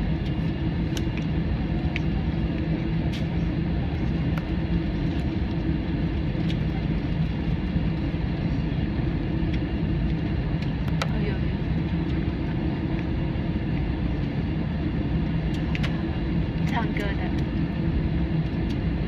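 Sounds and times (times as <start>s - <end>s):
airliner engines and airflow drone: 0.0s - 19.0s.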